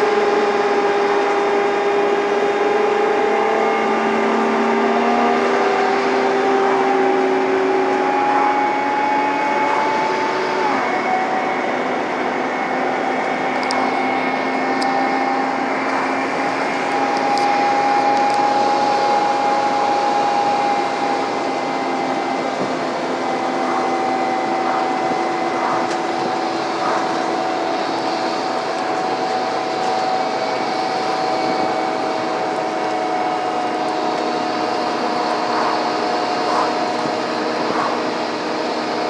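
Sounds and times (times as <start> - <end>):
bus engine whining uphill: 0.0 - 39.0.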